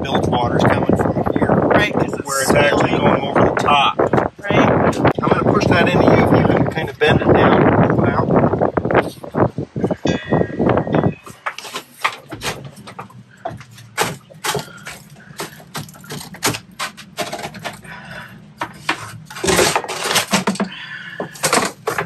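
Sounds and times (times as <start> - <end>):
knocks clicks and clatter: 0.0 - 7.8, 8.6 - 22.0
steady low hum: 0.0 - 22.0.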